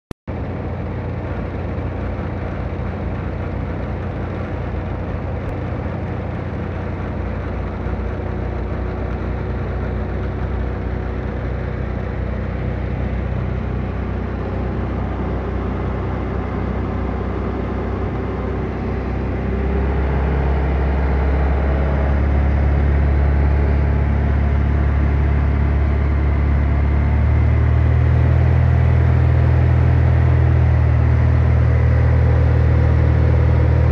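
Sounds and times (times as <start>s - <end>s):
light aircraft engine droning: 0.3s - 33.9s.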